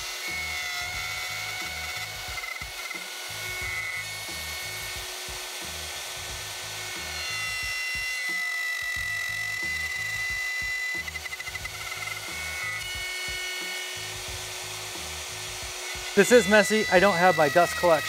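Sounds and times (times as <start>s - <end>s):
router cutting wood: 0.0s - 18.0s
background music beat: 0.1s - 18.0s.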